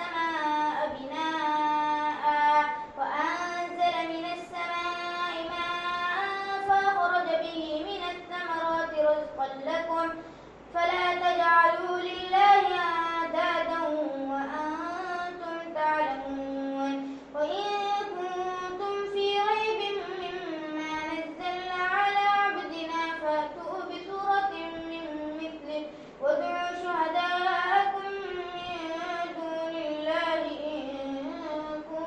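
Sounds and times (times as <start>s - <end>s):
boy chanting melodically: 0.0s - 32.0s.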